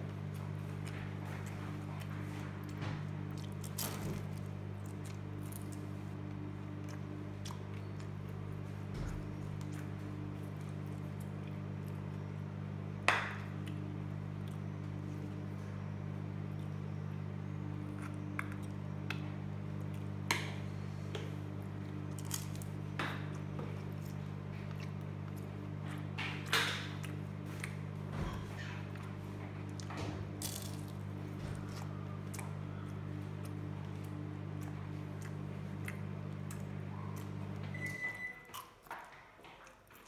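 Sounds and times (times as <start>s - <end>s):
steady low hum: 0.0s - 38.6s
crunchy biting and chewing: 0.2s - 12.3s, 13.3s - 28.9s, 29.6s - 37.6s.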